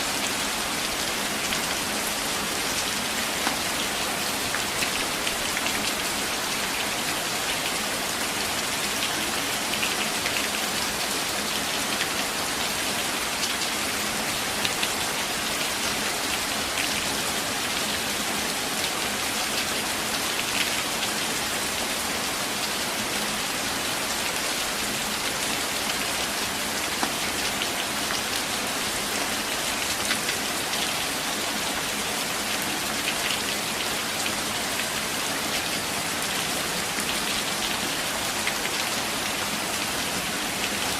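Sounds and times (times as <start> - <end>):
rain on foliage: 0.0 - 40.9.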